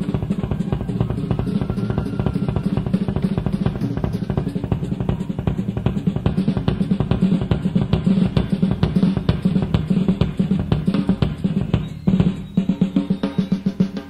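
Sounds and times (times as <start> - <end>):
fast busy drum kit: 0.0 - 14.0.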